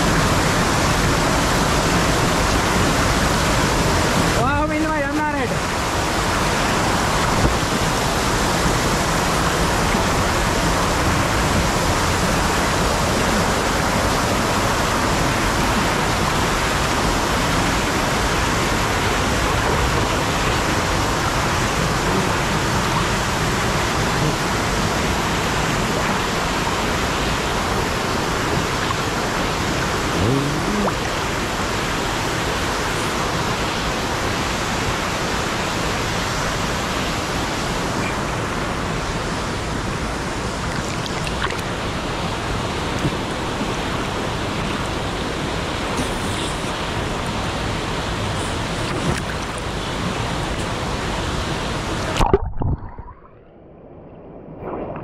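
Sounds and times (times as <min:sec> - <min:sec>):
waterfall roaring: 0:00.0 - 0:52.5.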